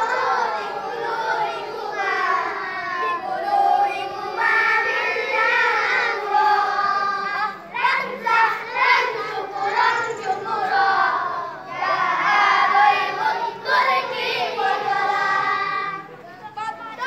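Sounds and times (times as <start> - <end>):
boys singing in unison: 0.0 - 16.2.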